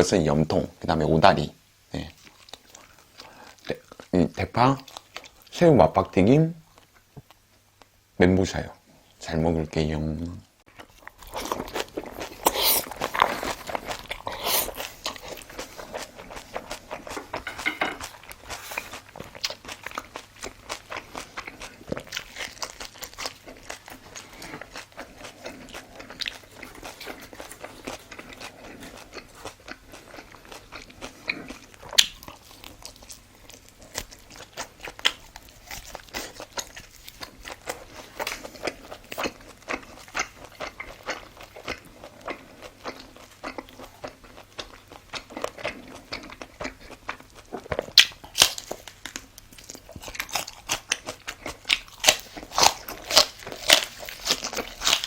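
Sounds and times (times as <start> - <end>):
chewing with wet mouth sounds: 2.2 - 5.6, 10.7 - 55.0
crunchy bites of food: 10.7 - 55.0.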